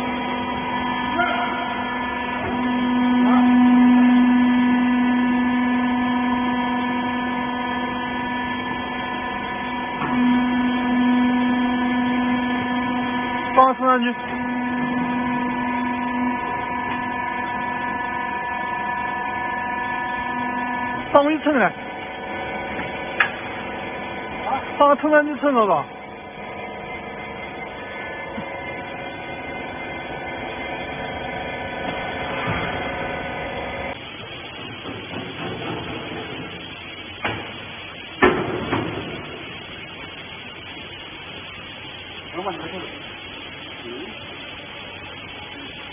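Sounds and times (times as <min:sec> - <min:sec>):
hydraulic power unit humming: 0:00.0 - 0:45.9.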